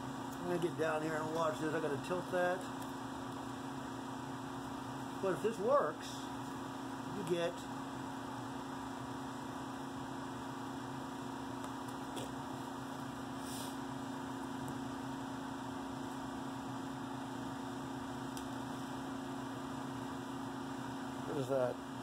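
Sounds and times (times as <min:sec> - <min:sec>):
blower humming with air rush: 0:00.0 - 0:22.0.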